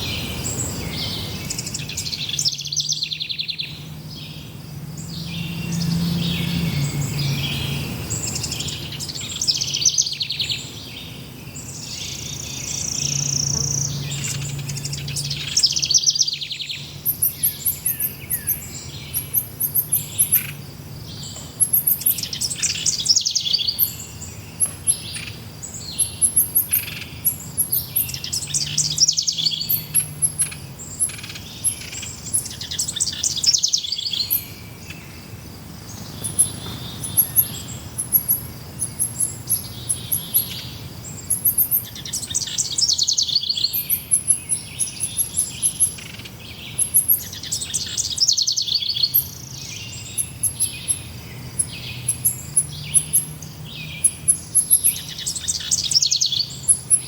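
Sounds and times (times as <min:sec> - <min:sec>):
high bird chirping: 0:00.0 - 0:57.0.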